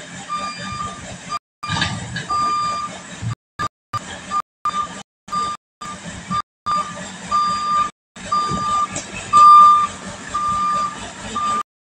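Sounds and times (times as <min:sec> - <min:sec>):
diesel engine hum: 0:00.0 - 0:11.7
reversing alarm beeping: 0:00.3 - 0:03.0, 0:03.6 - 0:11.7.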